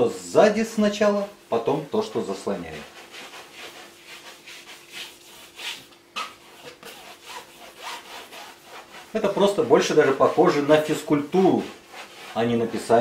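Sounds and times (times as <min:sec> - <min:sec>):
palette knife scraping canvas: 0:02.0 - 0:13.0.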